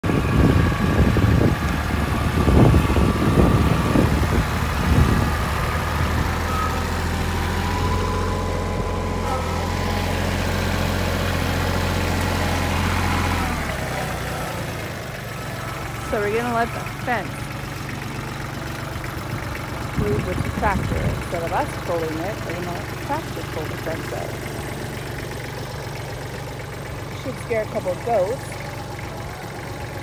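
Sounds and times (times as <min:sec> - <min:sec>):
tractor diesel engine rumbling: 0:00.0 - 0:30.0.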